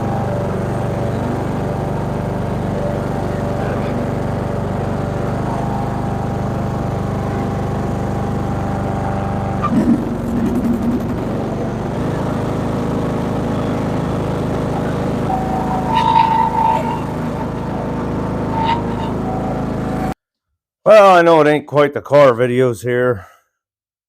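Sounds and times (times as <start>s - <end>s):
riding mower engine running: 0.0s - 20.2s.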